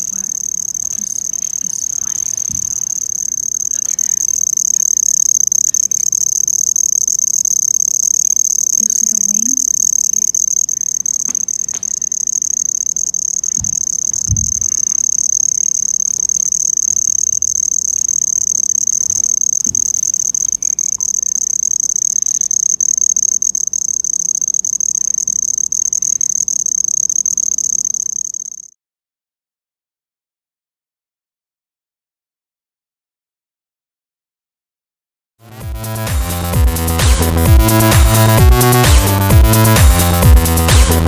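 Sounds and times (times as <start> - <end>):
insect trilling: 0.0 - 28.8, 35.7 - 41.0.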